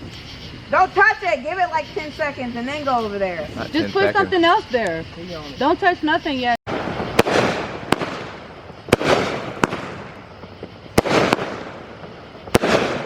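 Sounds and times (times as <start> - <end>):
fireworks bangs: 0.0 - 13.0
fireworks crackle: 0.0 - 13.0.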